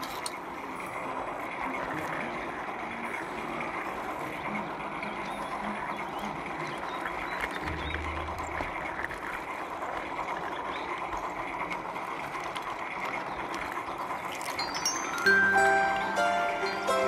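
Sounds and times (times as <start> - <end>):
model train wheels on rails: 0.0 - 17.0.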